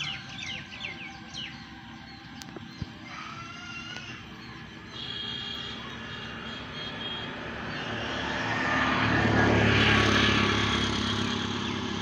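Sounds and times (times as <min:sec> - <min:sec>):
motor vehicle passing by: 0:00.0 - 0:12.0.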